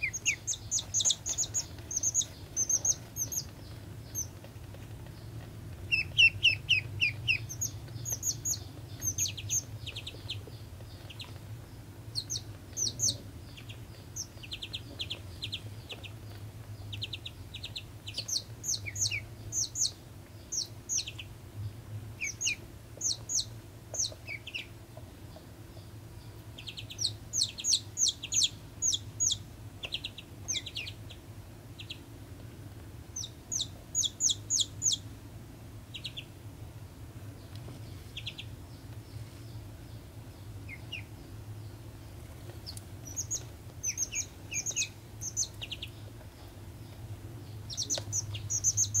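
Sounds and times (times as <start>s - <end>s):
chick peeping: 0.0s - 35.2s, 35.9s - 49.0s.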